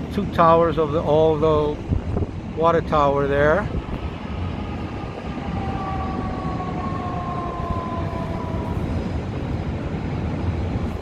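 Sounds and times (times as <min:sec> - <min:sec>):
distant jet aircraft passing: 0:01.8 - 0:11.0.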